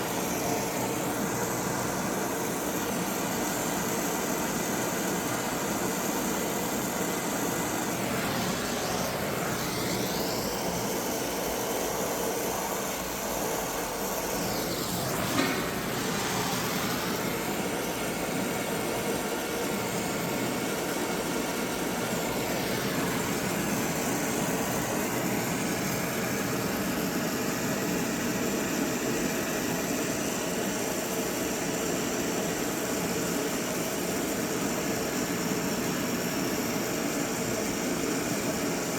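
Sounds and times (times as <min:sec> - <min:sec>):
torch flame hissing: 0:00.0 - 0:38.9.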